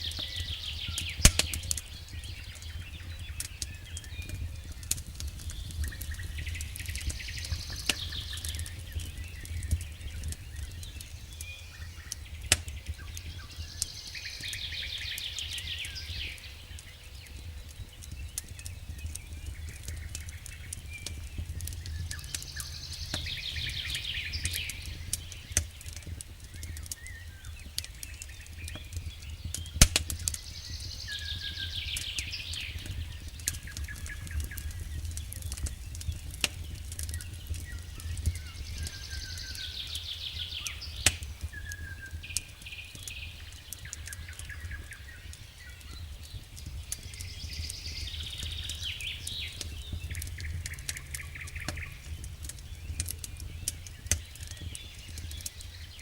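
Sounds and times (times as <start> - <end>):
bird trill and chirps: 0.0 - 56.0
low fire rumble: 0.0 - 56.0
fireplace popping: 1.0 - 11.4, 17.4 - 40.0, 40.6 - 55.6.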